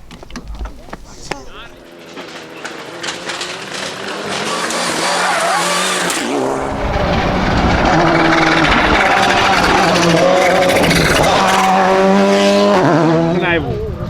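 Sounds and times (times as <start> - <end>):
rally car engine at speed: 1.3 - 14.0.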